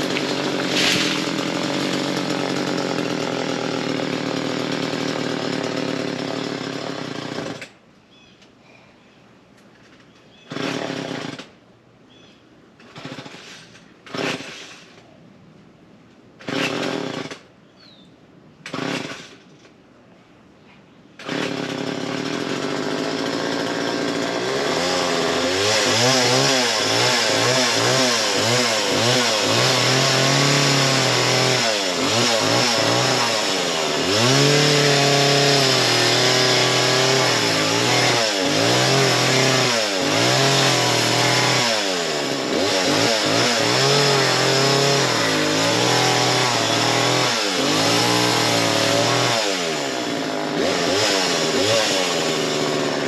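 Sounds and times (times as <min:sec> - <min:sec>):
chainsaw engine revving: 0:00.0 - 0:07.7, 0:10.5 - 0:11.5, 0:12.9 - 0:15.0, 0:16.4 - 0:17.4, 0:18.7 - 0:19.4, 0:21.2 - 0:53.0
chainsaw starting sputters: 0:00.0 - 0:07.8, 0:10.4 - 0:11.5, 0:12.8 - 0:15.0, 0:16.4 - 0:17.5, 0:18.7 - 0:19.6, 0:21.2 - 0:53.0.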